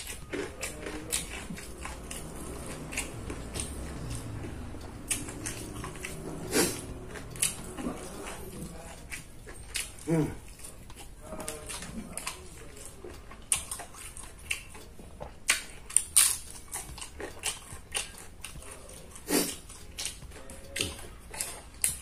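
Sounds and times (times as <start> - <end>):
person chewing and lip smacking: 0.0 - 22.0.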